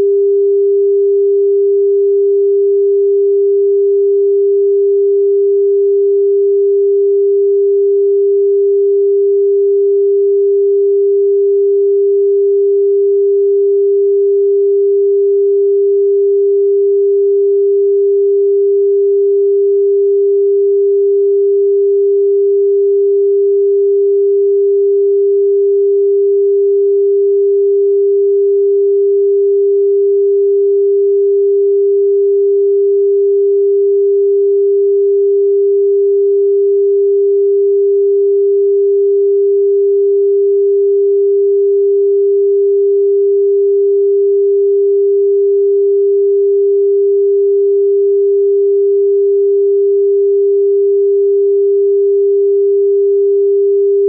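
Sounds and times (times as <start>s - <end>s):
steady sine tone: 0.0s - 54.0s.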